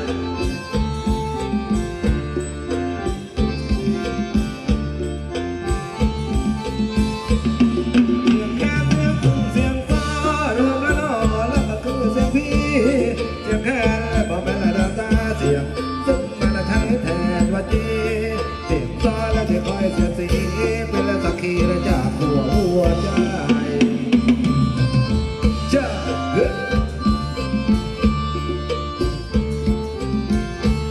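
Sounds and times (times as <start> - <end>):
live band dance music: 0.0 - 30.9
steady drum beat: 0.0 - 30.9
wavering lead melody: 0.0 - 30.9.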